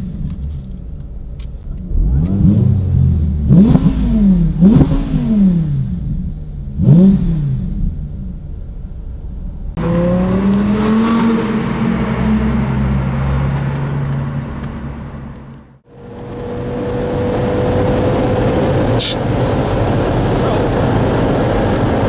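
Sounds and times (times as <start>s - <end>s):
road noise rushing: 0.0s - 22.0s
sports car engine accelerating: 0.0s - 22.0s.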